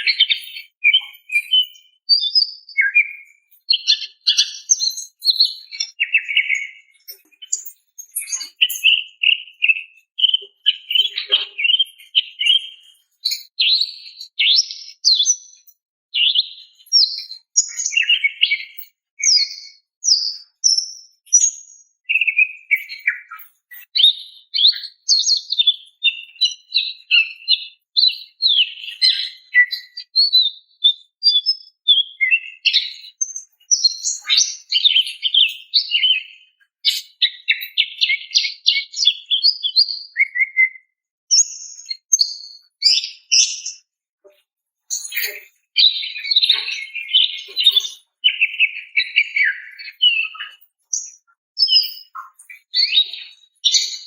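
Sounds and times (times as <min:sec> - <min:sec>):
bird chirping and whistling: 0:00.0 - 0:15.4, 0:22.1 - 0:33.1, 0:33.7 - 0:43.8, 0:44.9 - 0:54.0.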